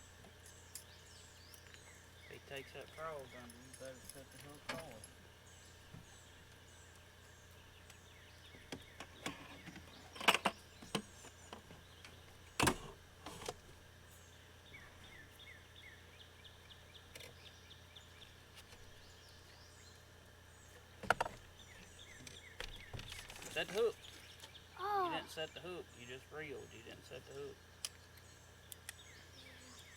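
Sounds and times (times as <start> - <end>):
small birds chirping: 0.0 - 29.9
steady low hum: 0.0 - 29.9.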